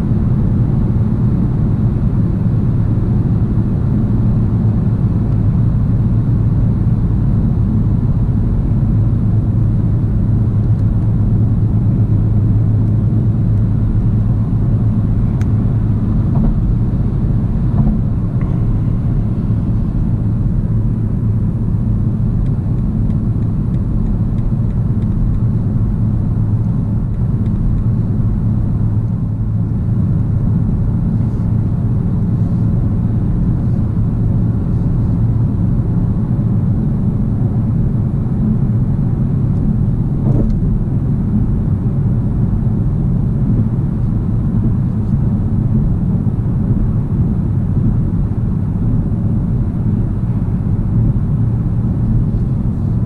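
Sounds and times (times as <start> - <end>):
tyre and road noise in car cabin: 0.0 - 53.0.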